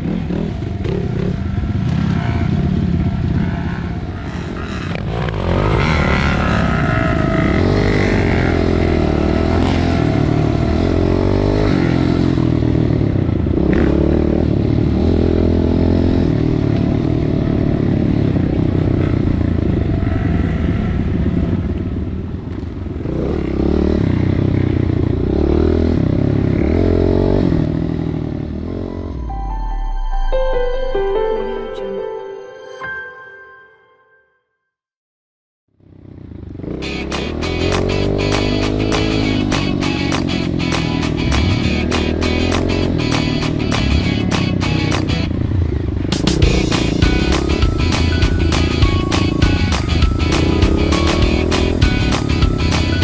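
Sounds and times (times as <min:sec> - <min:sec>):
dirt bike engine revving: 0:00.0 - 0:21.6, 0:23.0 - 0:28.9, 0:36.2 - 0:53.0.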